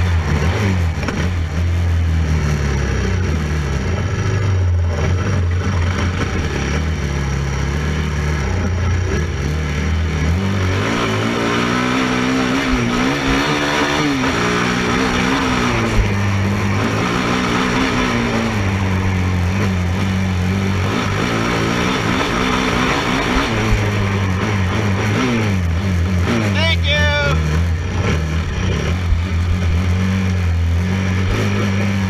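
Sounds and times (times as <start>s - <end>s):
quad engine revving: 0.0s - 32.0s.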